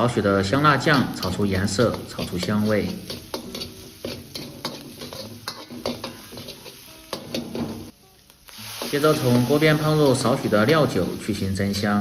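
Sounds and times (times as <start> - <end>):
food sizzling in oil: 0.0 - 12.0
metal utensil scraping a wok: 0.9 - 12.0.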